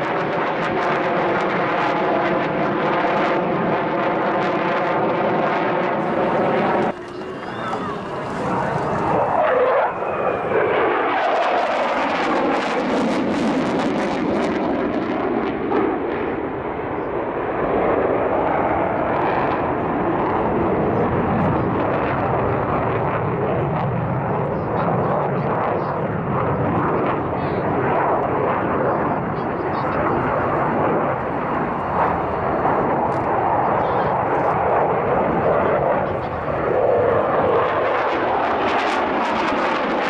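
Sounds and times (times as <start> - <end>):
fighter jet roar: 0.0 - 40.0.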